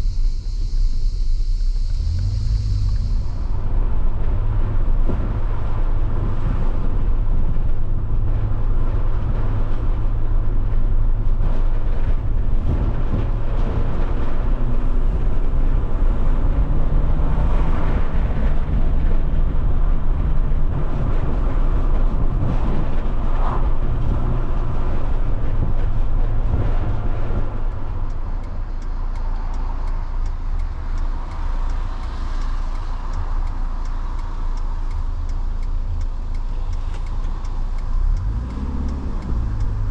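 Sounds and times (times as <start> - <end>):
car engine running: 0.0 - 39.9
road and tyre noise: 0.0 - 39.9.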